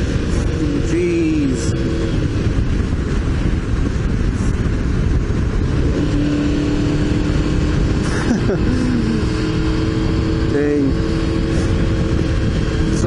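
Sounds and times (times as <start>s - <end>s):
motorcycle engine drone: 0.0s - 13.0s
wind rush over microphone: 0.0s - 13.0s.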